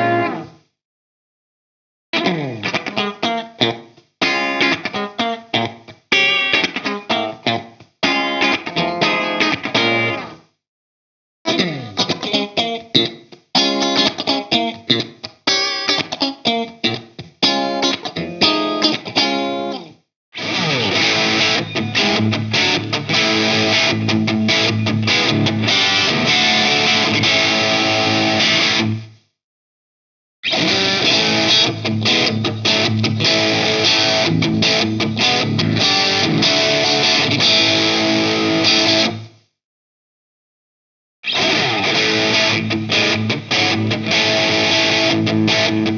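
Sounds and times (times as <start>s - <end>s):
distorted electric guitar riffing: 0.0s - 0.6s, 2.2s - 10.3s, 11.5s - 19.8s, 20.4s - 29.1s, 30.4s - 39.3s, 41.2s - 45.9s.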